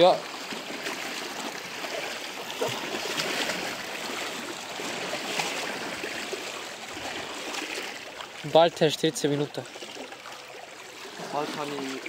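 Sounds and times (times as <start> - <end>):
small waves lapping at shore: 0.0 - 12.0.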